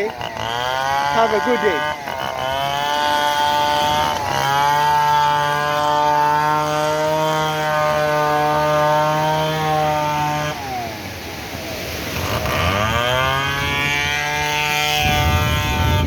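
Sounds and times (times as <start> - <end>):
small engine buzzing past: 0.0 - 16.0.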